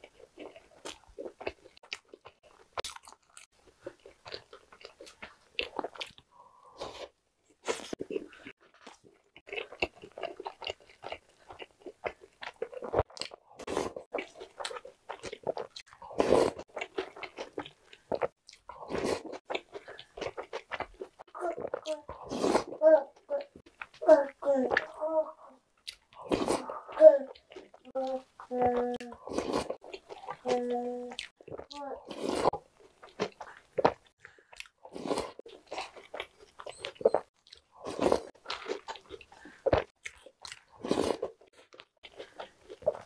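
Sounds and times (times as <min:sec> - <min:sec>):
wet chewing and crunching: 0:00.0 - 0:24.0, 0:25.6 - 0:43.0.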